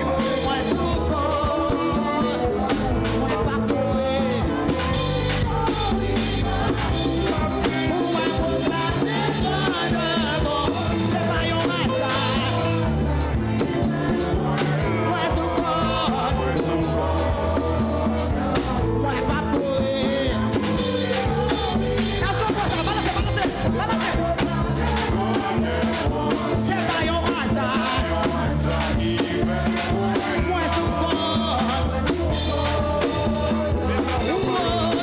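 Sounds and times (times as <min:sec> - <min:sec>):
live church band playing: 0:00.0 - 0:35.0
people singing: 0:00.0 - 0:35.0.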